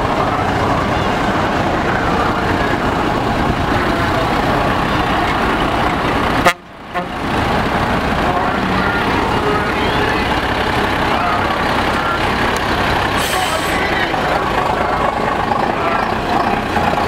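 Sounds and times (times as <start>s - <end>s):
lorry diesel engine driving off: 0.0s - 17.0s.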